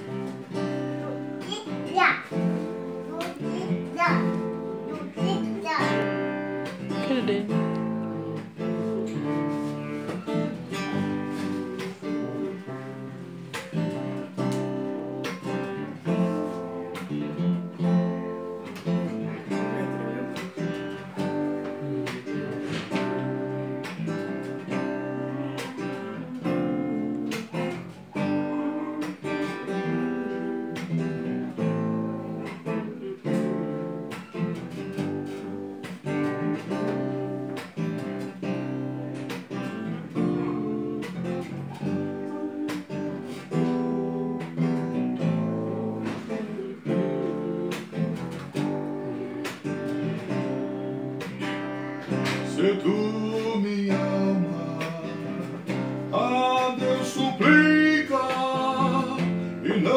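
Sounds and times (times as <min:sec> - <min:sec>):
acoustic guitars playing: 0:00.0 - 0:59.9.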